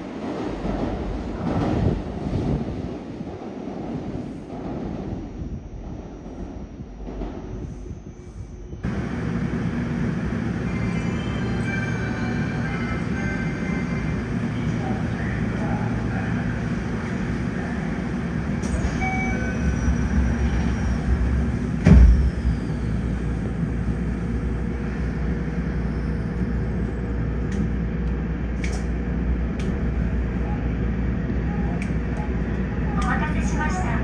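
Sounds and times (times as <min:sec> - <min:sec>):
train equipment humming: 0:00.0 - 0:34.0.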